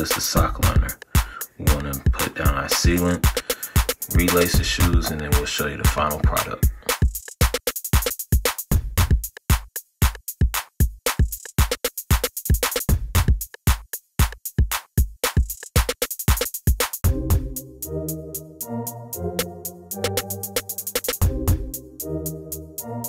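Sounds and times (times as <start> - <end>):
electronic drum beat: 0.0 - 17.6, 19.2 - 22.6.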